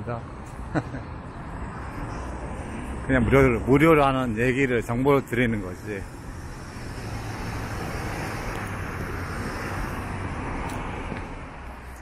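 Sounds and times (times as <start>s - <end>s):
cars driving: 0.1s - 12.0s.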